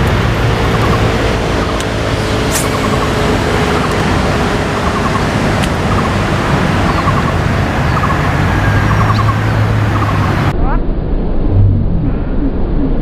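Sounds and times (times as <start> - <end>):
loud rushing noise: 0.0 - 12.4.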